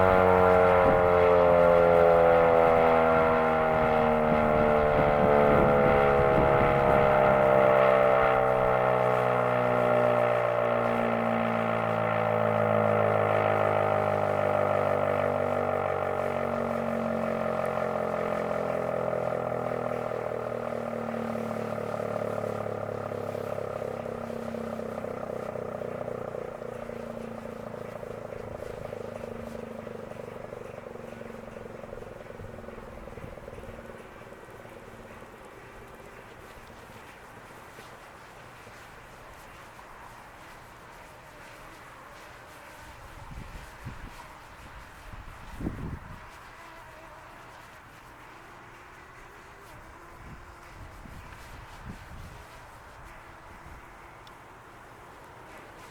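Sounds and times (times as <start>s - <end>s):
warning siren winding down: 0.0s - 55.9s.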